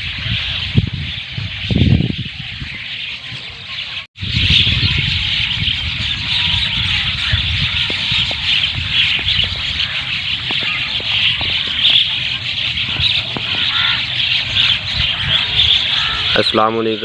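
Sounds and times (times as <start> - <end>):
birds chattering: 0.0 - 17.0.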